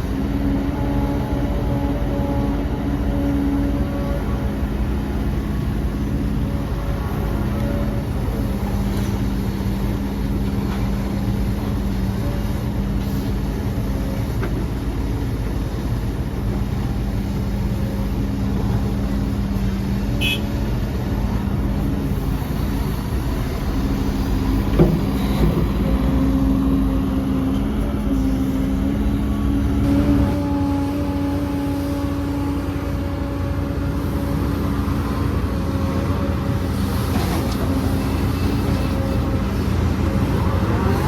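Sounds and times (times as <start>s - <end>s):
heavy machinery diesel engine rumbling: 0.0s - 41.0s.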